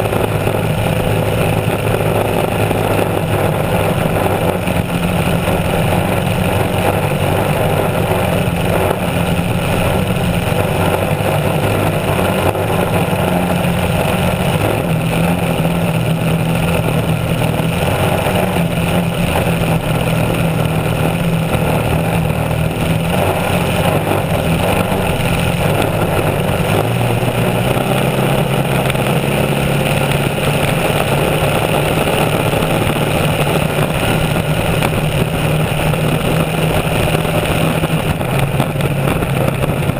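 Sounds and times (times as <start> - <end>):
loud boat engine: 0.0 - 39.9
rushing water and spray: 0.0 - 39.9.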